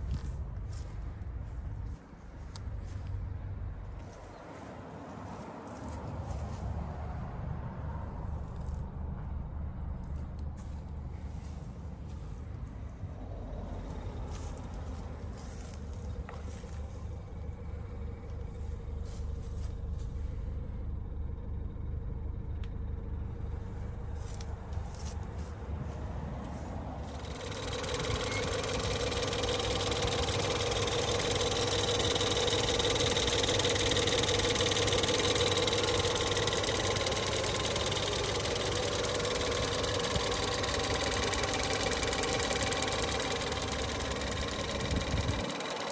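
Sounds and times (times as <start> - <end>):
car engine idling: 0.0 - 45.9
engine whine: 0.0 - 45.9.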